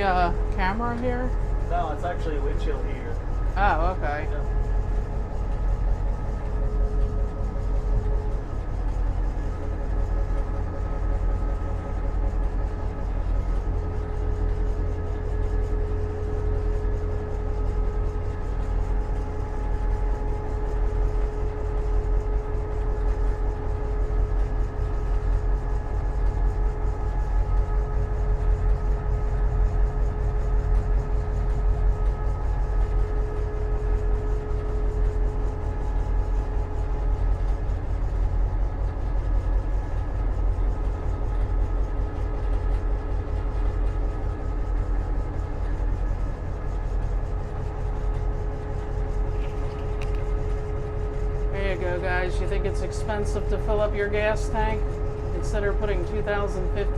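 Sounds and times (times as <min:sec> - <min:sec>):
diesel engine low rumble: 0:00.0 - 0:56.9
steady whining tones: 0:00.0 - 0:56.9.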